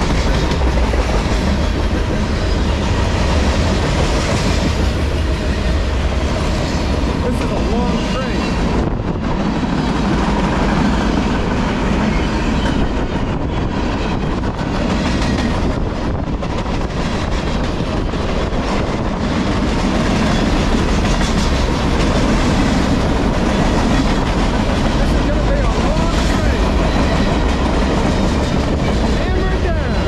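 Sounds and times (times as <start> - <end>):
train wheels on rails: 0.0 - 30.0.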